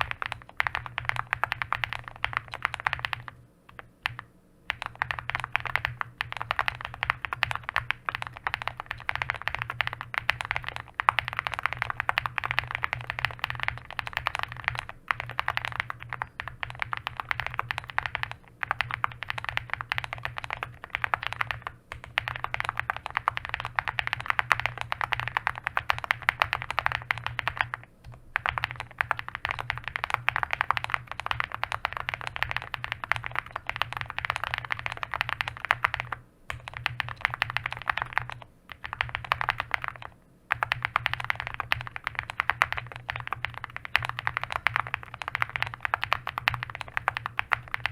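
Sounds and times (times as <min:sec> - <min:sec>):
mechanical keyboard typing: 0:00.0 - 0:47.9.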